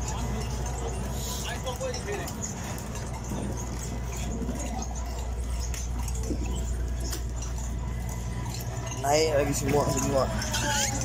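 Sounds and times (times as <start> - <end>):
boat machinery drone: 0.0 - 11.0.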